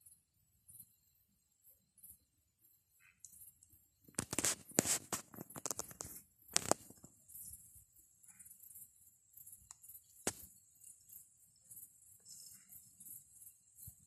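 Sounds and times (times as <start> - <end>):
night insects chirping: 0.0 - 14.0.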